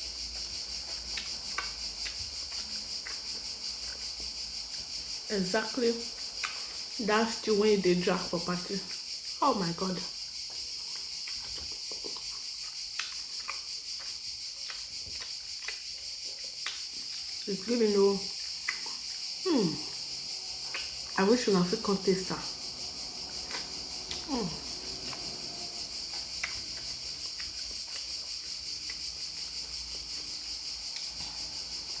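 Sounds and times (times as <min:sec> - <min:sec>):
insect chirring: 0:00.0 - 0:32.0.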